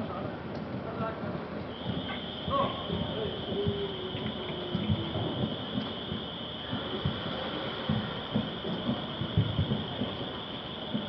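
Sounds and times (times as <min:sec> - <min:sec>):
distant fireworks booming: 0:00.0 - 0:11.0.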